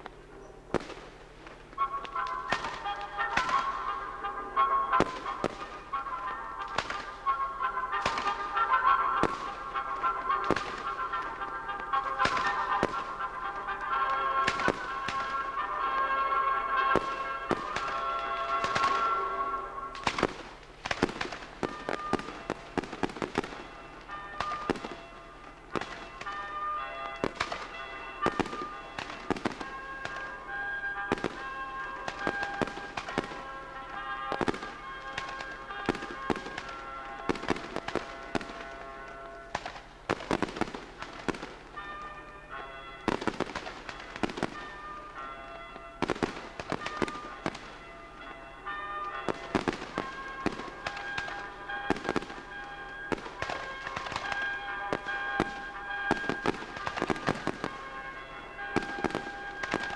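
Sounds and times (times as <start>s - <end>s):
fireworks bangs and crackles: 0.0s - 59.9s
sustained tones: 1.4s - 59.9s.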